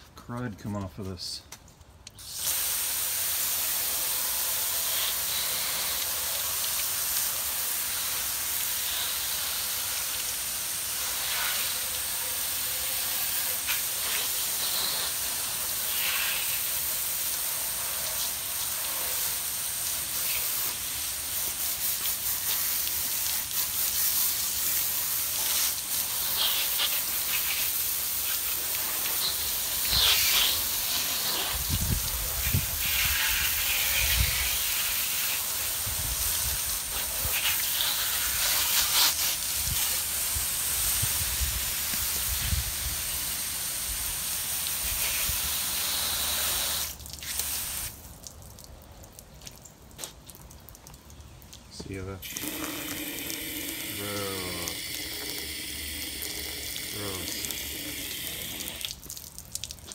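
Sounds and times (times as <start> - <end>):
pressure washer spraying: 2.2 - 48.0, 52.2 - 59.0.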